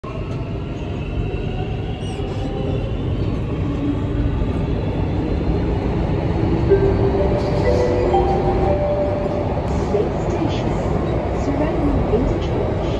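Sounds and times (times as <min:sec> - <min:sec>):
metro train wheels rumbling: 0:00.0 - 0:12.9.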